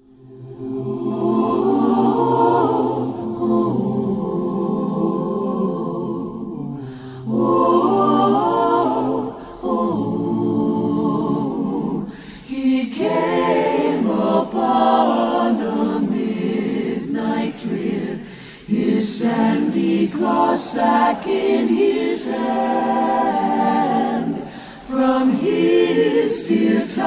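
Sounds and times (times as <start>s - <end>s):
choir singing in harmony: 0.0s - 27.0s.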